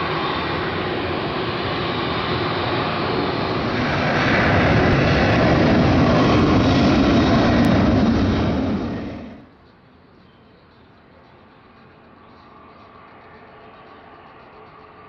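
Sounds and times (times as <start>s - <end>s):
jet engines running: 0.0s - 10.1s, 10.9s - 15.0s.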